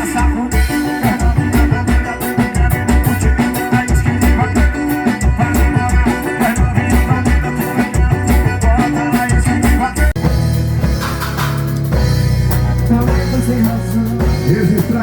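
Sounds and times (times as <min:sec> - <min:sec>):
heavy held bass: 0:00.0 - 0:15.0
loud dance music: 0:00.0 - 0:15.0.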